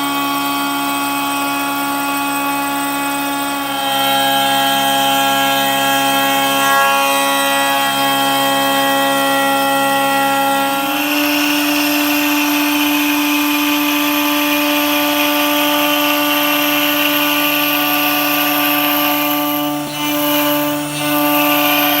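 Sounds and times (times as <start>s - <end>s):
router bit cutting wood: 0.0s - 22.0s
wood router whining: 0.0s - 22.0s.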